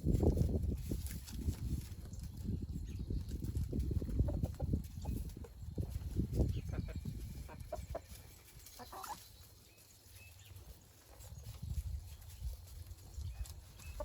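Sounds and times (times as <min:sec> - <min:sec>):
chickens clucking: 0:00.9 - 0:14.0.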